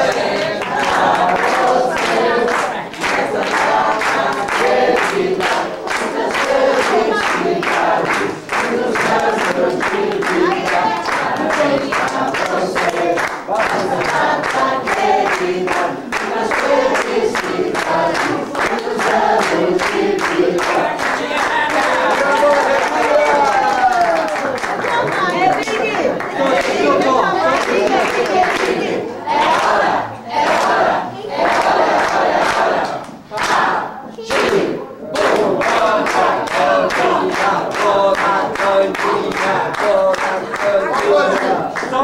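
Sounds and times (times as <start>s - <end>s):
crowd singing: 0.0s - 42.0s
people clapping in time: 0.0s - 42.0s.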